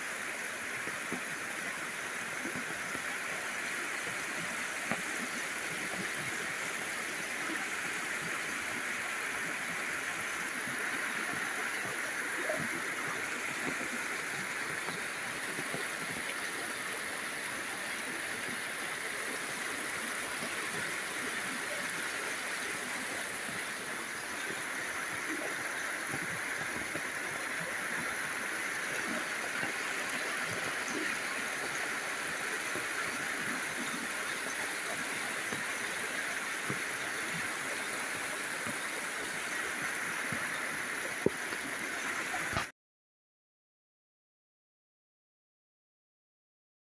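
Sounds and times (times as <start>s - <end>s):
rainwater flowing: 0.0s - 42.7s.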